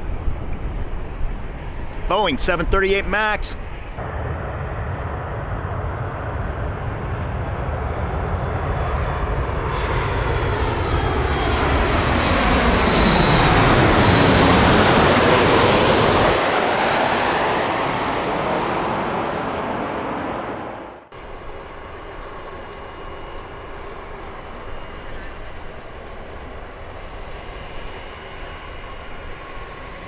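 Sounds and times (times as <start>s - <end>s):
jet airliner passing by: 0.0s - 30.0s.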